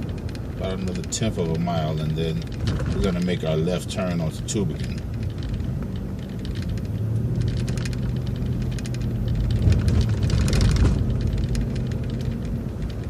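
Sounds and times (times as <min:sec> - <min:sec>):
bus engine and road drone: 0:00.0 - 0:13.0
clicks and rattles: 0:00.0 - 0:13.0.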